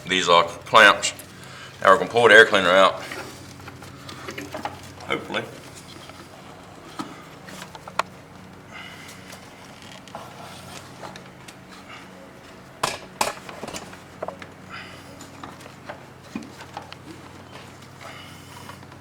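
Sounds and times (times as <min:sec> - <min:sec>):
air cleaner clicking and scraping: 0:02.4 - 0:19.0.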